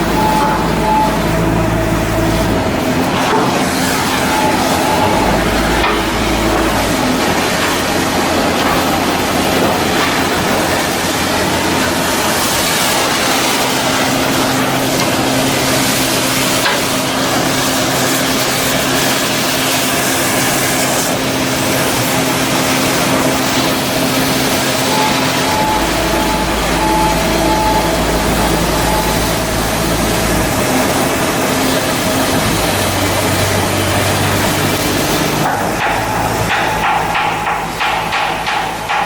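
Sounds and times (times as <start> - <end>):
machine hiss and hum: 0.0 - 39.0.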